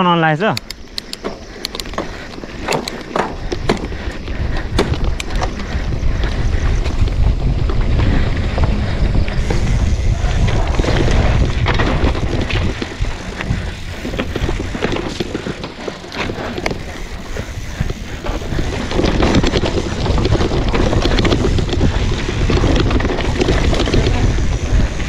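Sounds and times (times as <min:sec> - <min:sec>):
bike clacking and rattling: 0:00.5 - 0:25.0
wind buffeting microphone: 0:00.5 - 0:25.0
tyres rumbling over dirt: 0:01.1 - 0:25.0.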